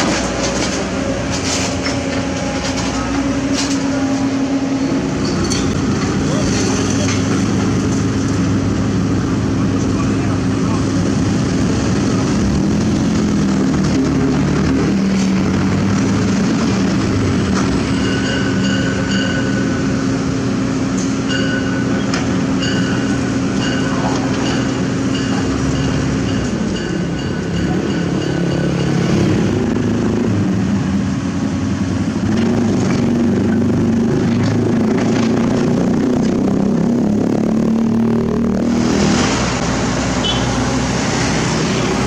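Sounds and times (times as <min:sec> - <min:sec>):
diesel engine running: 0:00.0 - 0:26.7, 0:27.6 - 0:42.0.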